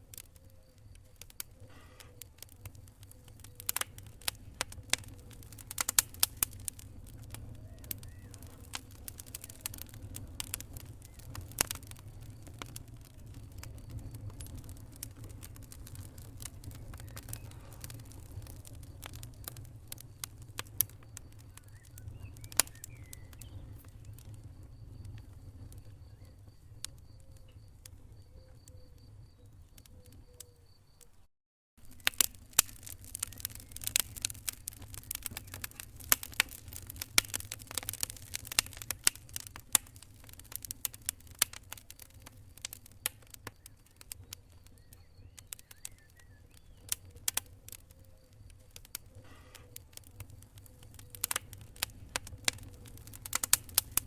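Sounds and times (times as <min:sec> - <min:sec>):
low rumble of flames: 0:00.0 - 0:31.1, 0:31.8 - 0:54.0
wood fire crackling: 0:00.0 - 0:31.1, 0:31.8 - 0:54.0.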